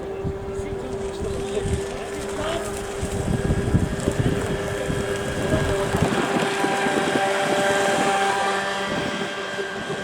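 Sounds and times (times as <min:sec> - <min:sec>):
boat motor whining: 0:00.0 - 0:10.0
wind rumbling on microphone: 0:00.0 - 0:10.0.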